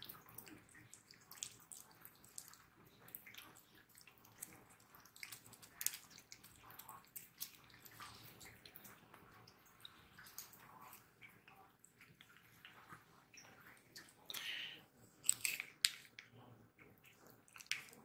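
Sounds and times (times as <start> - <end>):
cats licking and smacking: 0.0 - 18.0.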